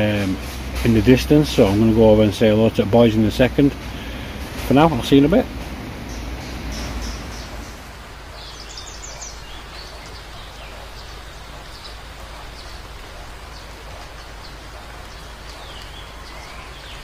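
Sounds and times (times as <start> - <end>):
rain on tent fabric: 0.0 - 17.0.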